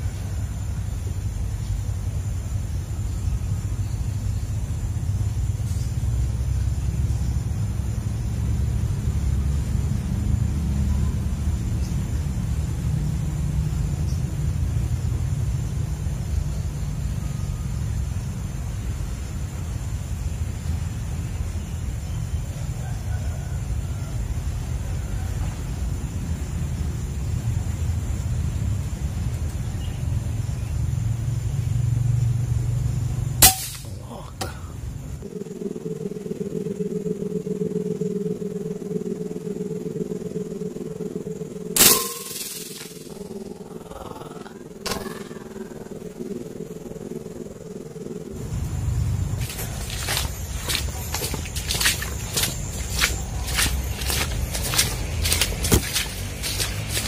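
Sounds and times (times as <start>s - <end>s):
steady low rumble: 0.0s - 22.8s, 24.2s - 57.0s.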